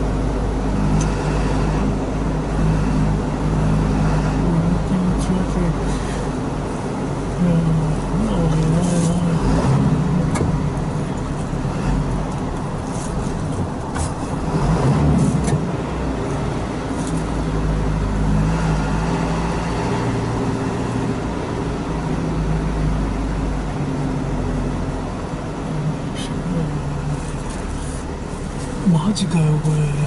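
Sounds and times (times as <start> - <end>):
vehicle engine hum: 0.0 - 30.0.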